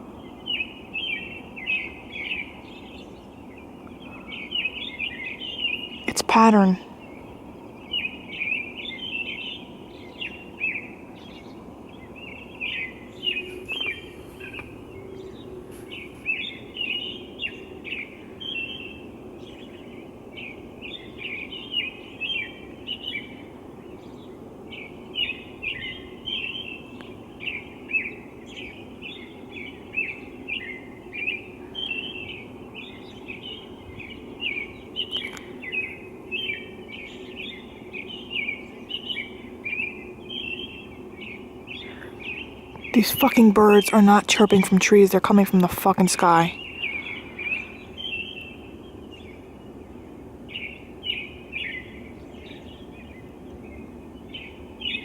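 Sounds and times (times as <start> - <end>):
steady low hum: 0.0 - 55.0
birds chirping and singing: 0.2 - 55.0.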